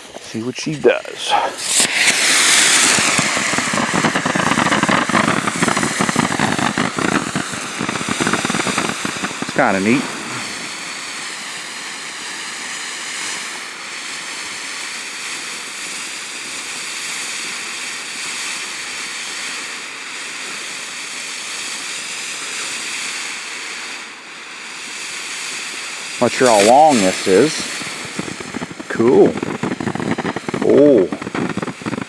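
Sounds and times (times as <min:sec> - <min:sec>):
firework fountain hissing: 0:00.0 - 0:32.0.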